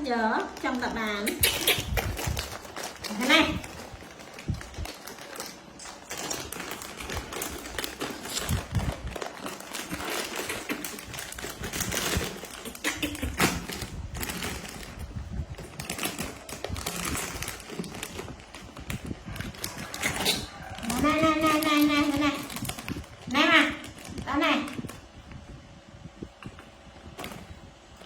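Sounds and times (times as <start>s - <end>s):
plastic packaging clicking and crackling: 0.0s - 25.1s, 26.3s - 28.0s.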